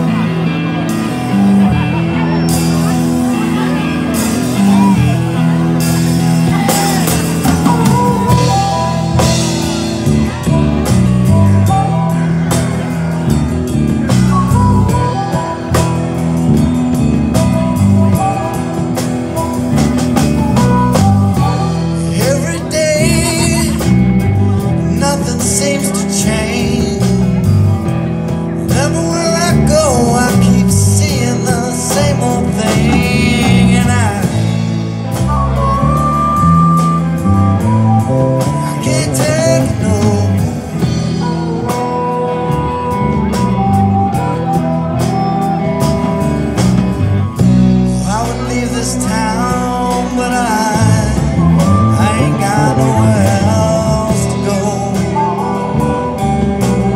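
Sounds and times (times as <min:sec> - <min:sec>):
electric guitar: 0:00.0 - 0:56.9
harmonica wailing: 0:00.0 - 0:56.9.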